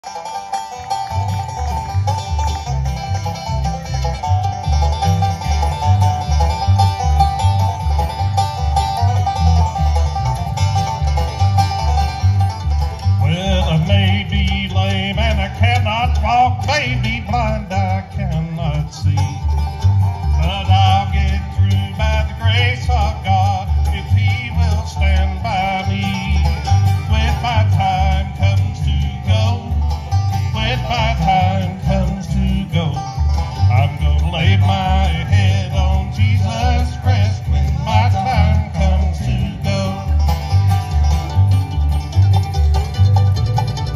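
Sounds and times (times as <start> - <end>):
banjo picking: 0.0 - 43.9
guitar: 0.0 - 43.9
pulsing bass line: 0.0 - 43.9.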